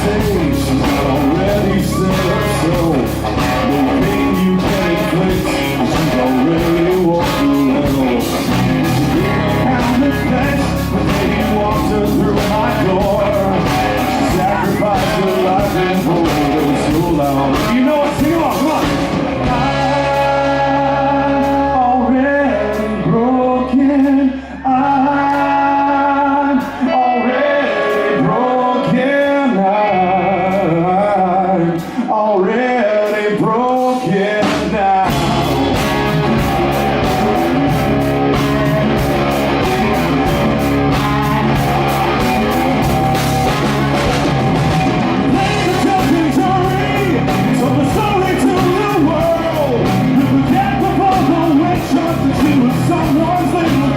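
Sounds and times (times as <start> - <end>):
live rock band playing: 0.0 - 53.9
person singing: 0.0 - 53.9.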